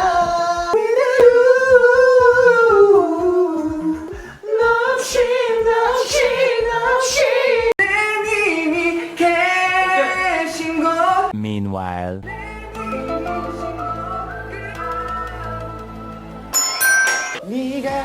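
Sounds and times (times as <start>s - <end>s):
man singing unaccompanied: 0.0s - 6.4s, 7.1s - 11.4s, 12.2s - 16.4s.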